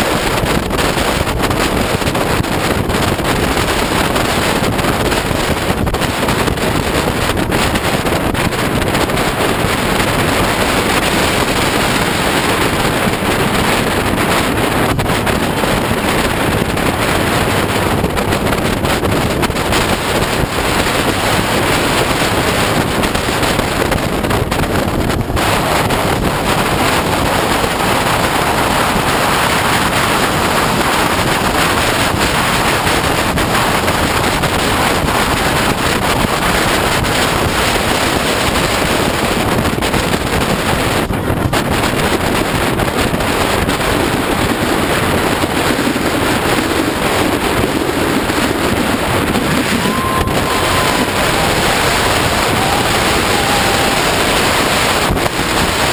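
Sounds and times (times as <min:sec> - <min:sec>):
motorcycle engine running: 0:00.0 - 0:55.9
wind buffeting microphone: 0:00.0 - 0:55.9.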